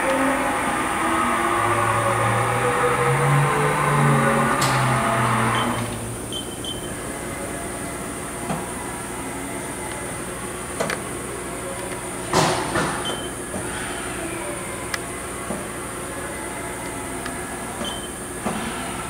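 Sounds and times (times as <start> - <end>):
machine axis drives whining: 0.0 - 19.0
machine humming: 0.0 - 19.0.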